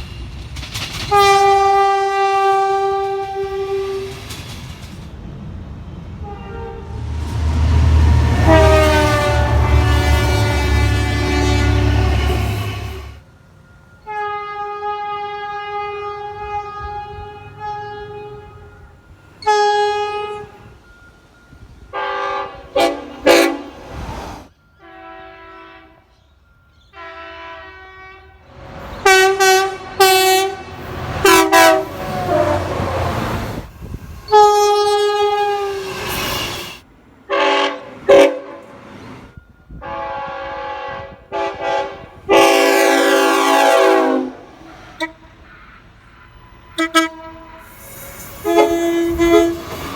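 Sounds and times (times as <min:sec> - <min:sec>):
train horn blasts: 0:01.1 - 0:04.2, 0:06.2 - 0:13.2, 0:14.0 - 0:20.8, 0:21.9 - 0:23.9, 0:24.8 - 0:26.2, 0:26.9 - 0:33.6, 0:34.2 - 0:38.8, 0:39.7 - 0:49.9.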